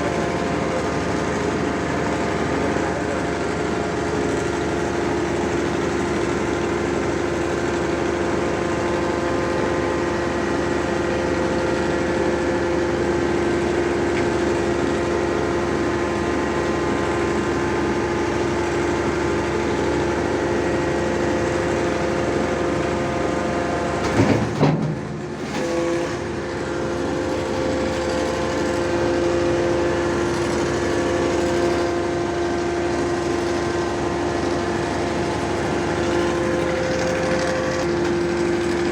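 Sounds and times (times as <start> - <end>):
pile driver engine whining: 0.0 - 38.9.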